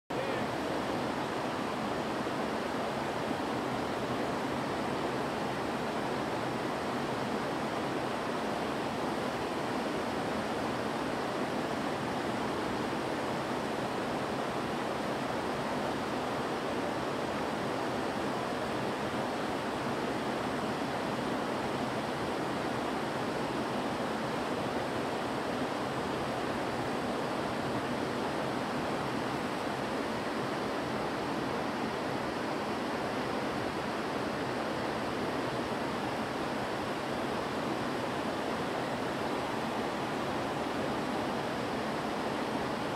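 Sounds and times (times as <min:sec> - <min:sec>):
river rushing over rocks: 0:00.1 - 0:42.9.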